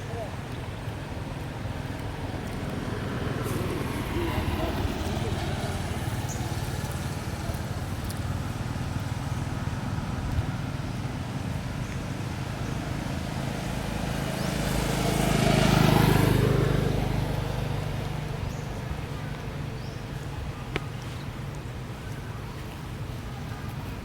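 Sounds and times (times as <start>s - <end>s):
vehicle passing: 1.2s - 11.0s, 12.2s - 24.0s.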